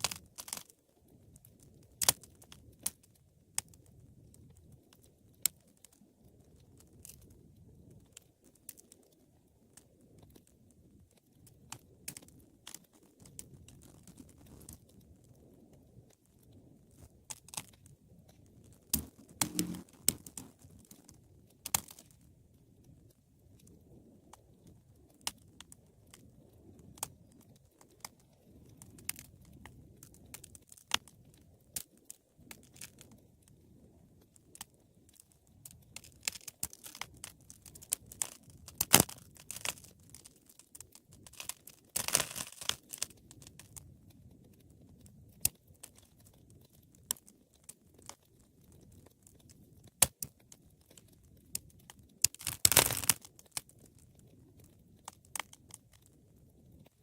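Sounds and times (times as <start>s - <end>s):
low rumble of flames: 0.0s - 42.0s, 42.6s - 57.0s
wood fire crackling: 0.0s - 57.0s.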